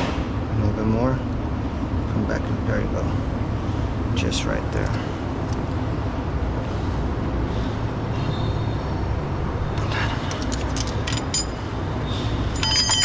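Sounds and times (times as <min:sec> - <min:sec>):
low workshop rumble: 0:00.0 - 0:13.0.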